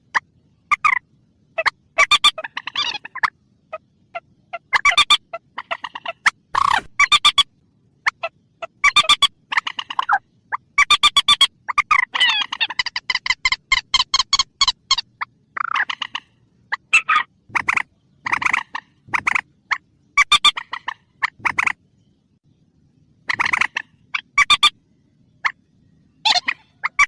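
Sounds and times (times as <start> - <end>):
swamphen calls: 1.6 - 21.8, 23.2 - 24.8, 25.4 - 27.0.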